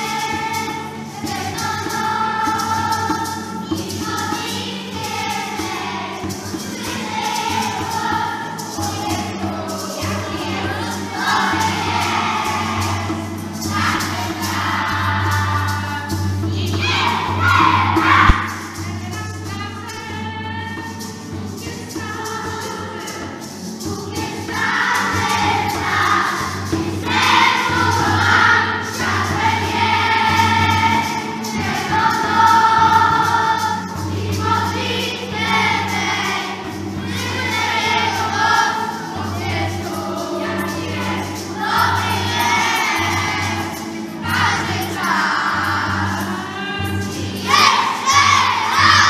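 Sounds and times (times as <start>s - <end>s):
children singing: 0.0s - 49.0s
recorded musical accompaniment: 0.0s - 49.0s.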